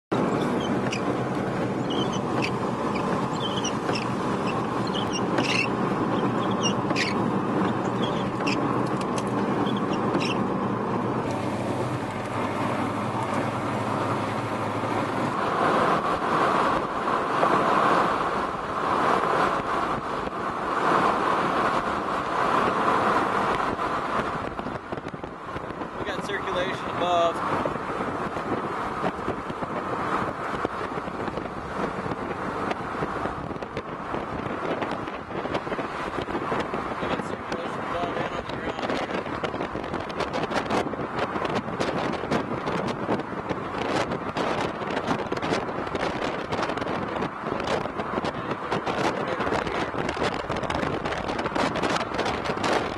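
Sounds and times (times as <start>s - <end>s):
vehicle humming: 0.1s - 52.9s
wind rushing over microphone: 0.1s - 52.9s.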